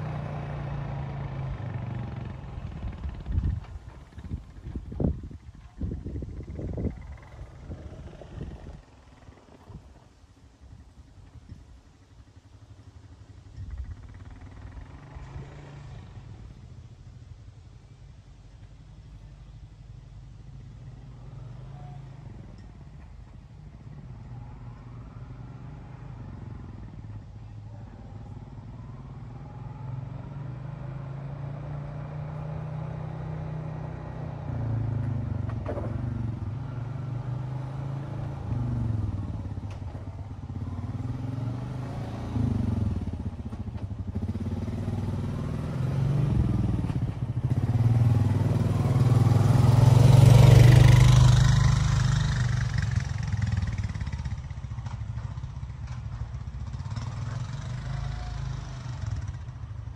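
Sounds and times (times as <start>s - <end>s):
atv engine revving: 0.0s - 9.8s, 13.5s - 16.7s, 20.5s - 59.9s.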